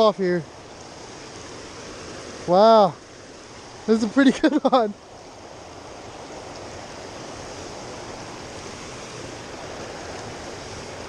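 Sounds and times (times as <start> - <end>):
water rushing from waterfall: 0.0 - 11.0.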